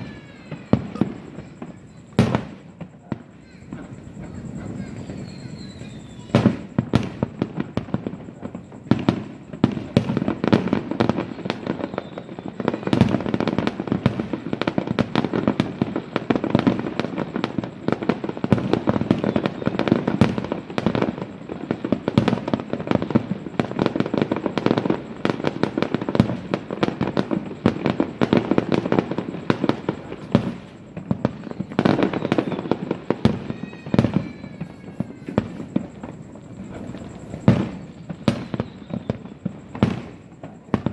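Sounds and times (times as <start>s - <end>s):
falling firework whistles: 0.0s - 40.9s
fireworks bangs and crackles: 0.0s - 40.9s.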